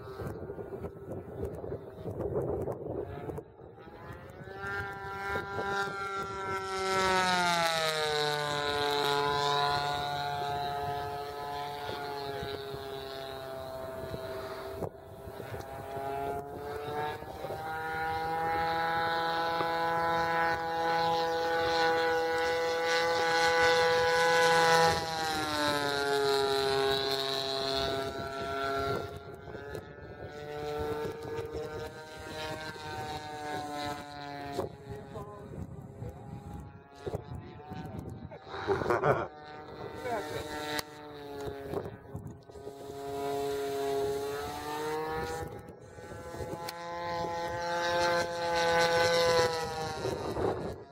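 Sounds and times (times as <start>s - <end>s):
model airplane engine droning: 0.0s - 50.9s.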